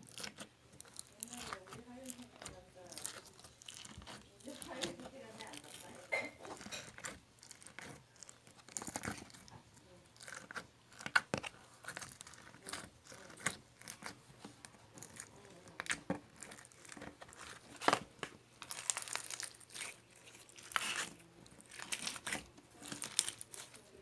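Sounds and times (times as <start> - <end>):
close-up crinkling and clicks: 0.0 - 24.0
crackly rustles: 0.0 - 24.0.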